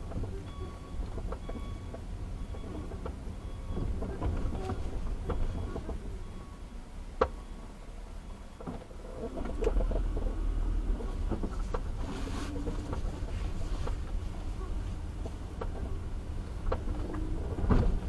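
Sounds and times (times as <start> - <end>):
car engine rumble from inside: 0.0 - 18.0.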